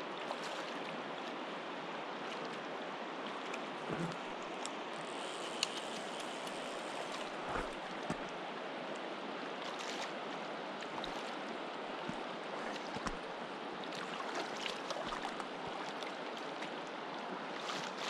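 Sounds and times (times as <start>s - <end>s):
river water over stones: 0.0s - 18.0s.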